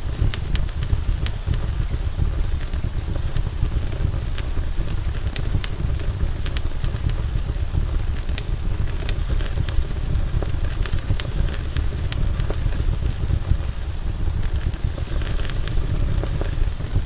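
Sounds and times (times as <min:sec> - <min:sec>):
burning wood crackling and popping: 0:00.0 - 0:17.0
low rush of flame: 0:00.0 - 0:17.0.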